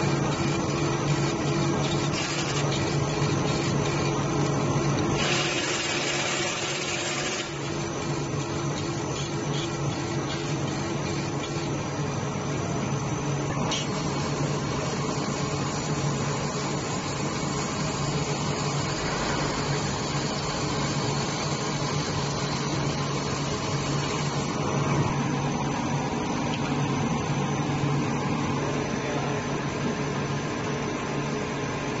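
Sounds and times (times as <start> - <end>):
laser engraver fan whirring: 0.0 - 32.0.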